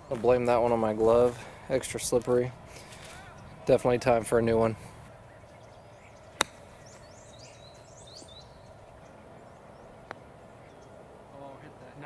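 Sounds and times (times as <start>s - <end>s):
small birds chirping: 1.3s - 12.0s.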